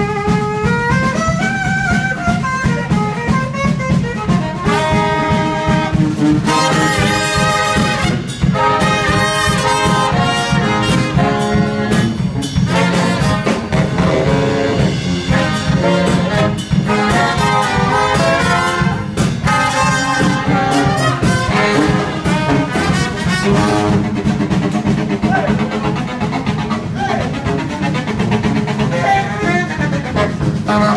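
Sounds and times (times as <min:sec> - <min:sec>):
brass band playing: 0:00.0 - 0:30.9
drum kit beat: 0:00.0 - 0:30.9.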